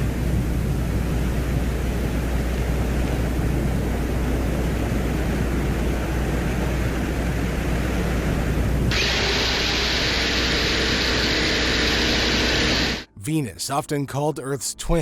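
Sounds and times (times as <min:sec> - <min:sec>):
constant low hum: 0:00.0 - 0:13.1
steady rushing noise: 0:00.0 - 0:13.1.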